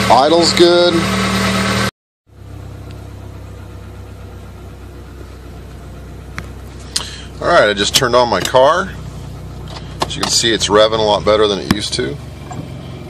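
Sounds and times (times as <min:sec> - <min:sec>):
car engine idling: 0:02.3 - 0:13.0.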